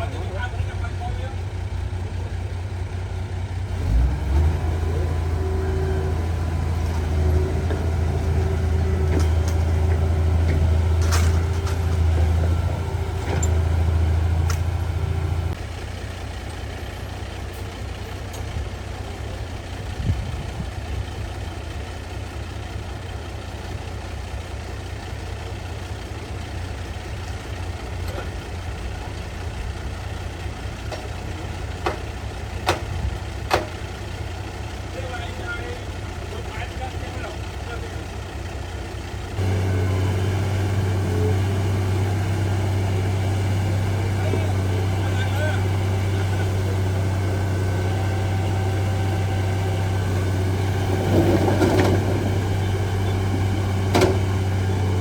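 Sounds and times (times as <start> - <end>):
heavy diesel engine whining: 0.0 - 55.0.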